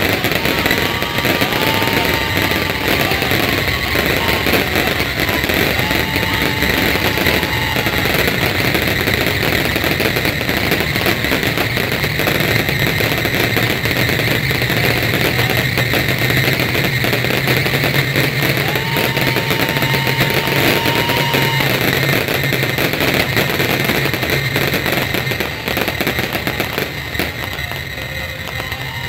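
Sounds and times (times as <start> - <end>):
fireworks crackling and popping: 0.0 - 29.0.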